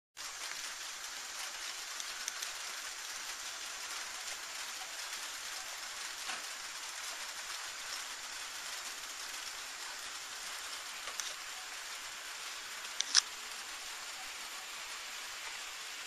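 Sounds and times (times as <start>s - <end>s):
faint raindrop ticks: 0.2s - 15.8s
light rain hiss: 0.2s - 16.0s.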